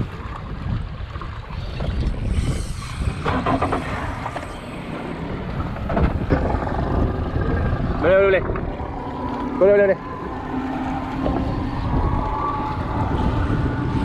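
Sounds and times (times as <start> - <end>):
water sloshing around boat: 0.0 - 14.0
wind on microphone: 0.0 - 14.0.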